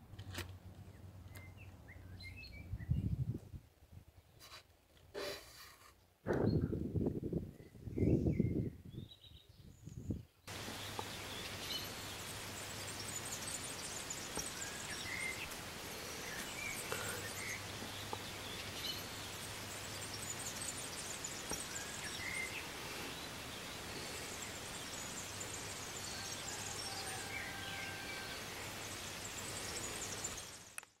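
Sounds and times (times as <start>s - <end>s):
background hiss: 0.0s - 6.4s, 9.2s - 31.0s.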